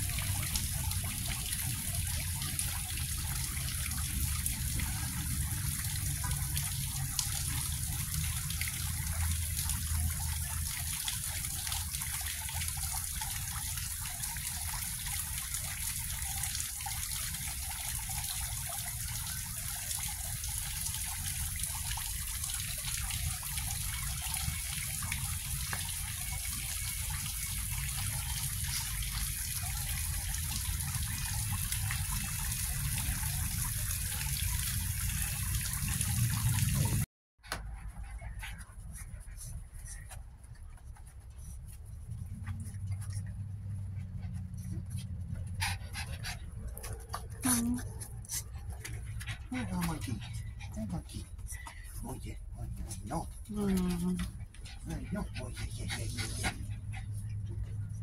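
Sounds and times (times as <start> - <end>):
fountain water splashing: 0.0 - 37.0, 42.4 - 57.9.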